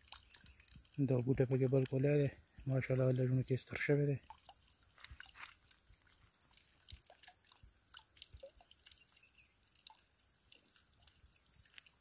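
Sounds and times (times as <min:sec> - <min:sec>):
faint ticks and crackles: 0:00.0 - 0:12.0.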